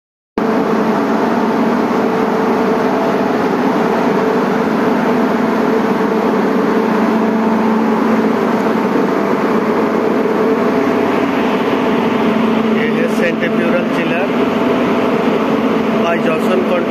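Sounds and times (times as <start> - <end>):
machinery rush with hum tones: 0.4 - 16.9.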